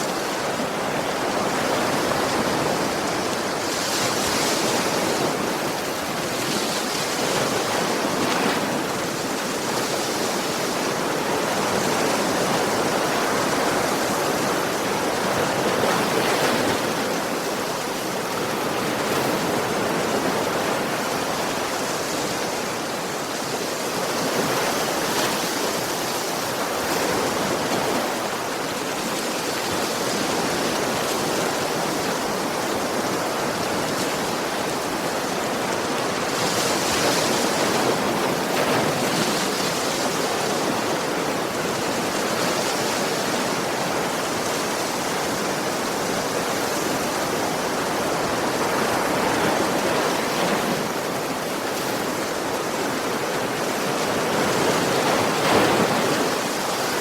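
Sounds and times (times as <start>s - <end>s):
sea waves washing onto beach: 0.0s - 57.0s.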